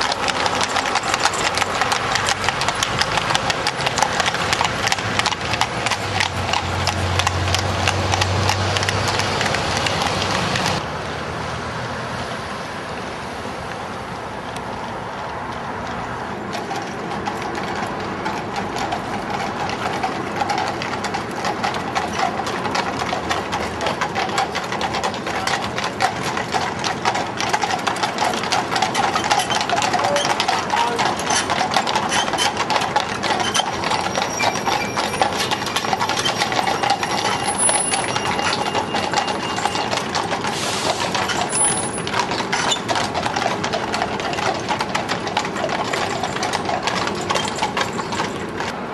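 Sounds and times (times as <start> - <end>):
carriage wheels rattling: 0.0 - 10.8, 16.5 - 48.7
hooves clip-clopping on road: 0.0 - 11.4, 12.1 - 48.9.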